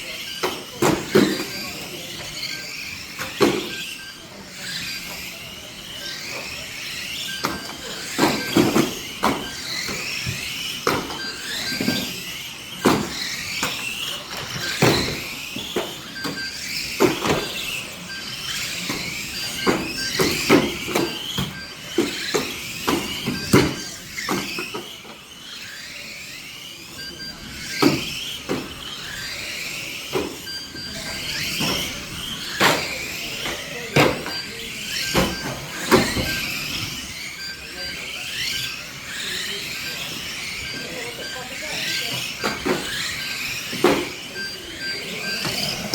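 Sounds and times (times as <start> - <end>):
model car motors whining: 0.0 - 45.9.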